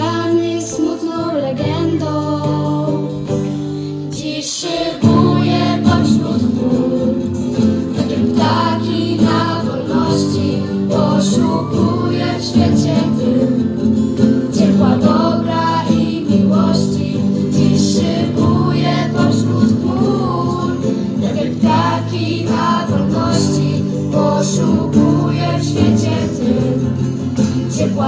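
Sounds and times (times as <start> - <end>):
young female singers singing: 0.0 - 3.3, 3.9 - 28.0
acoustic guitar: 0.0 - 28.0.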